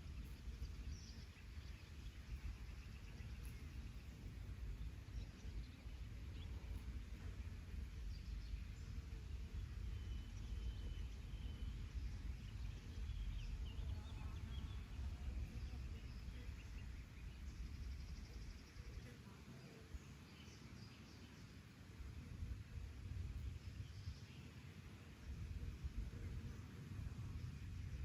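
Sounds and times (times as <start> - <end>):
low outdoor rumble: 0.0 - 28.0
songbirds chirping: 0.0 - 28.0.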